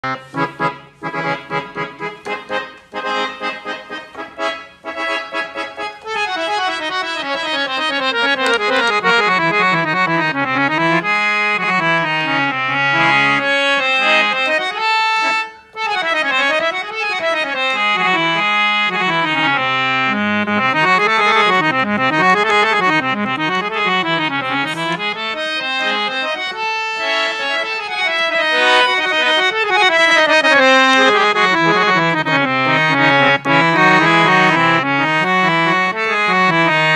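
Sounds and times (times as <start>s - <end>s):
harmonium playing: 0.0s - 36.9s.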